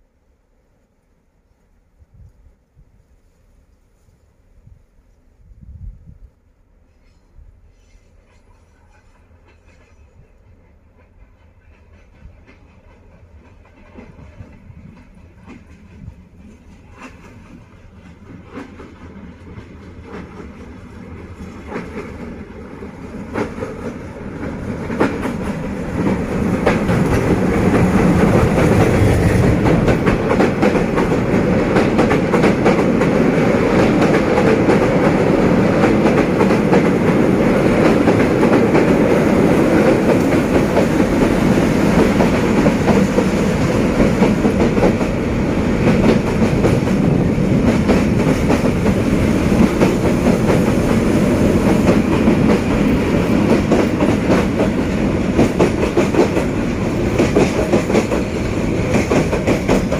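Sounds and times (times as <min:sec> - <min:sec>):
train wheels rumbling on rail: 0:04.6 - 0:59.9.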